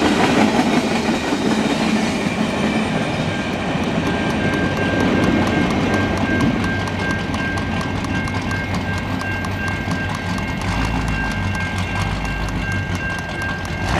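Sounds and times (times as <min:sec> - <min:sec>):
low rumble of freight cars: 0:00.0 - 0:13.9
steel wheels clicking on track: 0:00.0 - 0:13.9.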